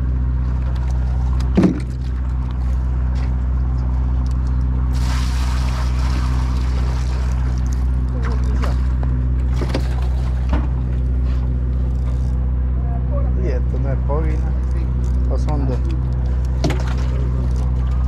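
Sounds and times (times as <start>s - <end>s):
boat engine idling: 0.0s - 18.0s.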